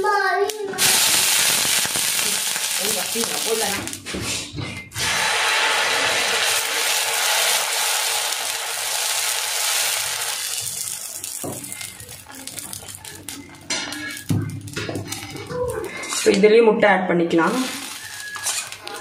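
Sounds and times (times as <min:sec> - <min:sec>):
hot griddle sizzling: 0:00.4 - 0:16.3, 0:17.4 - 0:19.0.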